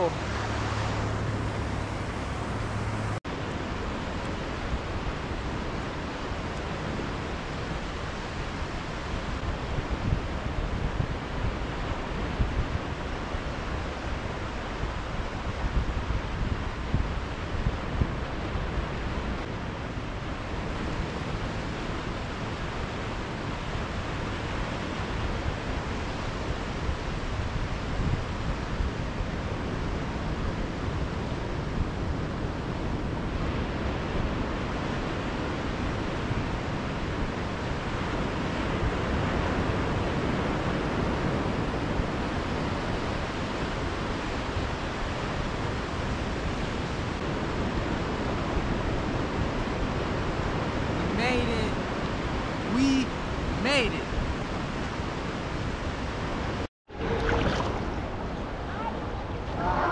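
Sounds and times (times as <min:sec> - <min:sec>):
ocean surf on a beach: 0:00.0 - 0:59.9
wind rumbling on microphone: 0:00.0 - 0:59.9.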